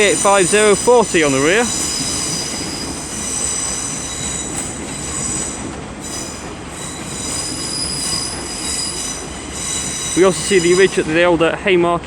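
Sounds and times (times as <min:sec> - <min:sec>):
train wheels squealing: 0:00.0 - 0:11.5
train running gear rumble: 0:00.0 - 0:12.0.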